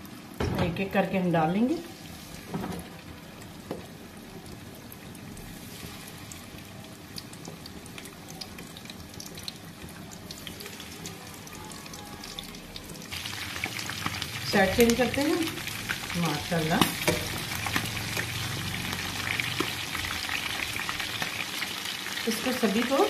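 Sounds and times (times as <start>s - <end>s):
chicken pieces deep-frying in oil: 0.0s - 23.0s.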